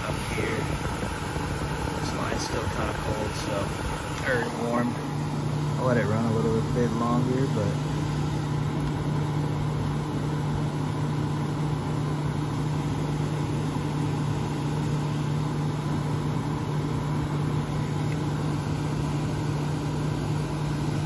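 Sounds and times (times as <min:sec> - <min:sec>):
air conditioner fan rushing: 0:00.0 - 0:21.0
air conditioner humming: 0:00.0 - 0:21.0.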